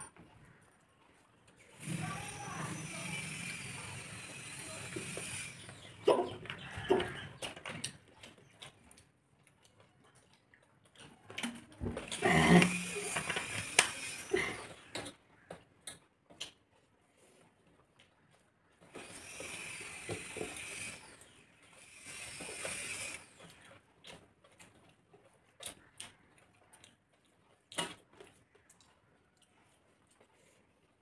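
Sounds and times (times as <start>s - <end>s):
faint clicks and scrapes: 0.0s - 31.0s
fingers mixing food on metal plates: 0.0s - 31.0s
chewing: 2.8s - 31.0s.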